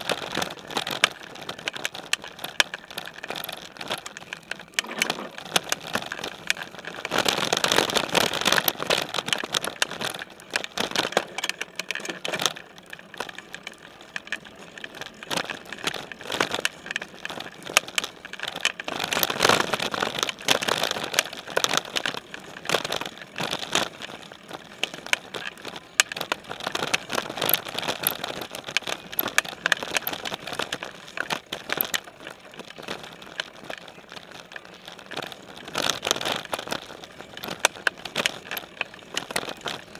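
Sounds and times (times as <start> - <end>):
bike rattling and clicking: 0.0 - 39.9
bike tyres on dirt: 0.0 - 39.9
tyres rolling over wooden planks: 0.0 - 39.9.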